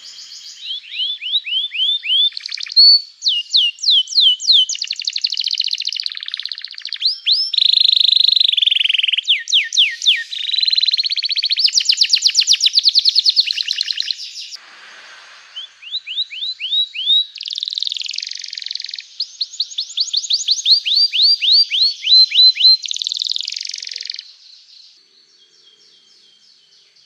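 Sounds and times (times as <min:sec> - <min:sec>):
canary singing trills: 0:00.0 - 0:14.6, 0:15.5 - 0:27.0.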